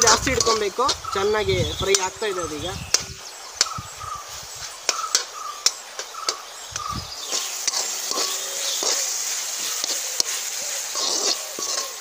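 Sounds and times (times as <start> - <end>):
onions sizzling faintly: 0.0 - 12.0.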